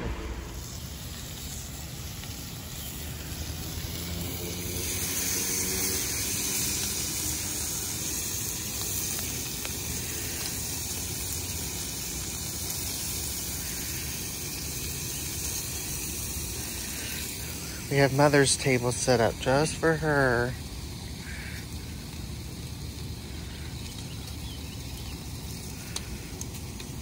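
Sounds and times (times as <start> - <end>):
bacon sizzling on griddle: 0.6 - 27.0.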